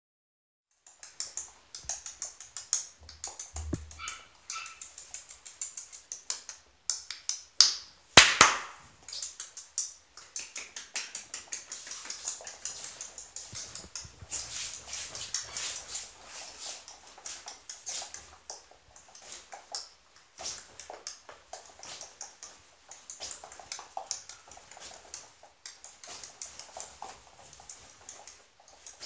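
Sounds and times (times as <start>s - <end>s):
puppy claws clicking on floor: 0.7s - 29.0s.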